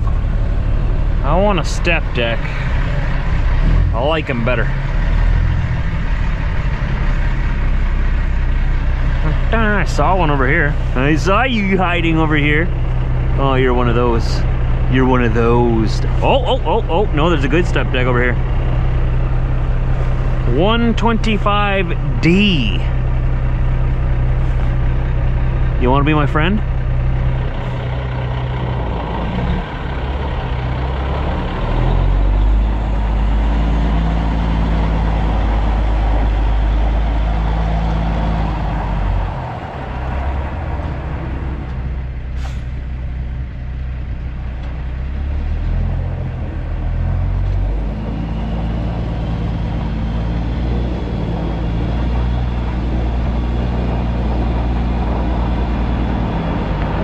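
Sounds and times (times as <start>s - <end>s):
diesel truck engine at low revs: 0.0s - 57.0s.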